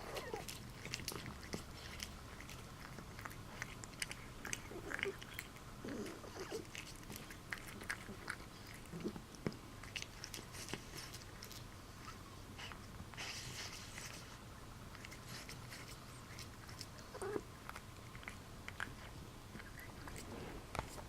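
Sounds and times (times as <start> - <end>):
cat chewing noisily: 0.0 - 21.0.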